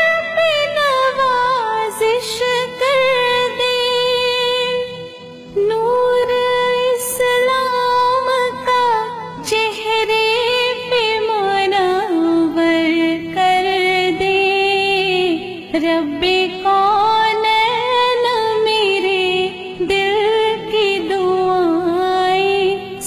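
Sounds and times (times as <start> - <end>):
person singing devotional song: 0.0 - 23.0.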